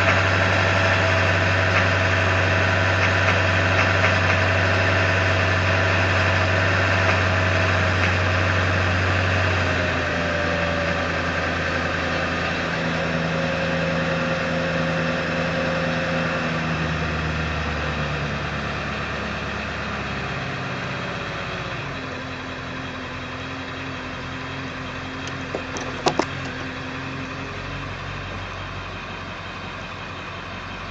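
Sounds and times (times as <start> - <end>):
diesel engine idling high: 0.0 - 30.9.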